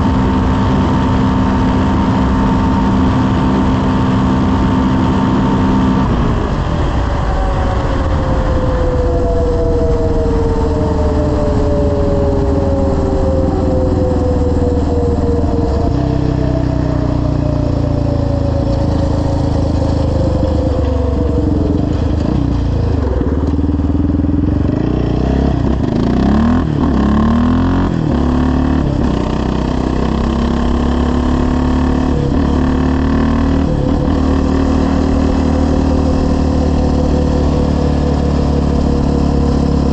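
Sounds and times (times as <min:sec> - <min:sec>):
engine revving at speed: 0:00.0 - 0:39.9.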